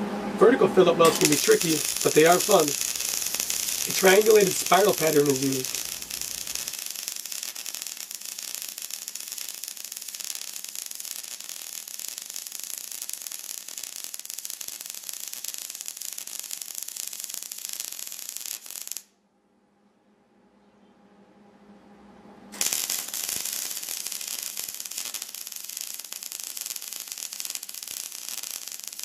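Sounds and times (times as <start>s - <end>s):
welding arc crackling: 1.0s - 19.1s, 22.6s - 29.0s.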